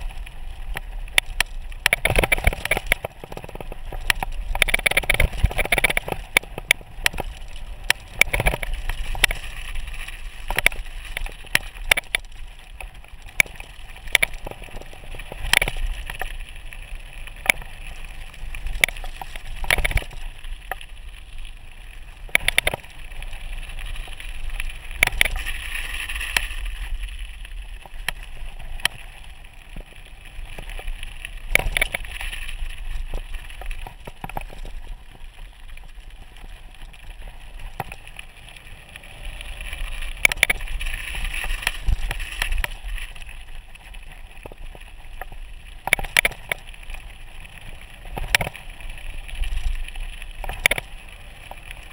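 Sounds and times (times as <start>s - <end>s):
bike rattling over bumps: 0.0s - 51.9s
tyres crunching over gravel: 0.0s - 51.9s.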